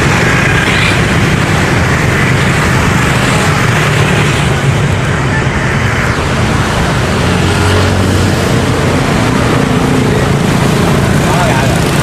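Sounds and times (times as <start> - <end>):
motorbike traffic: 0.0 - 12.0.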